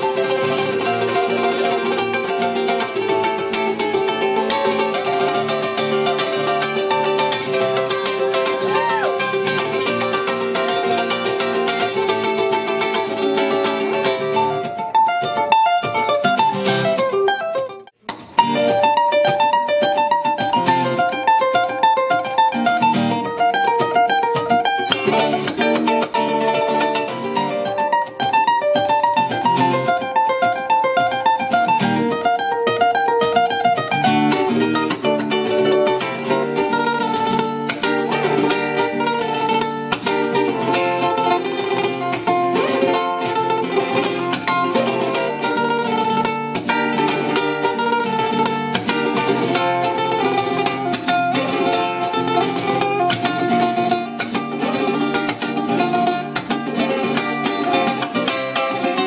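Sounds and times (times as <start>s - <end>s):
acoustic guitar strumming: 0.0s - 59.0s
ukulele picked melody: 0.0s - 59.0s.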